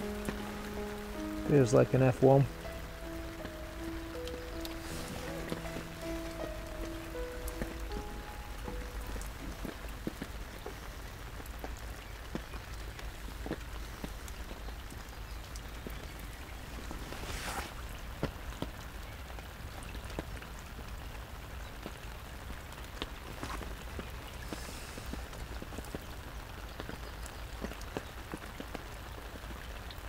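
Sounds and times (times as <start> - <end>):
rain pattering on lake: 0.0 - 30.0
raindrops ticking on umbrella: 0.0 - 30.0
steady rain: 0.0 - 30.0.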